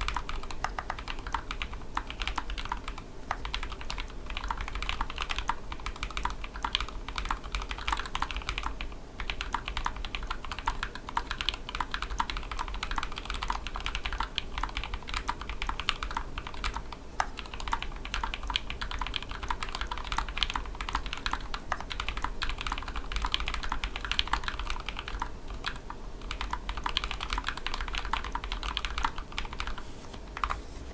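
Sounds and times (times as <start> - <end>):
fast mechanical keyboard typing: 0.0 - 30.6.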